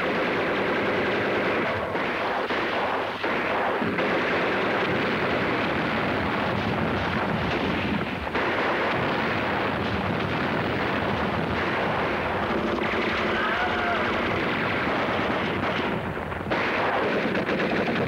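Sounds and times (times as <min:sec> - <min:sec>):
gunfire: 0:00.0 - 0:18.0
explosions: 0:01.5 - 0:18.0.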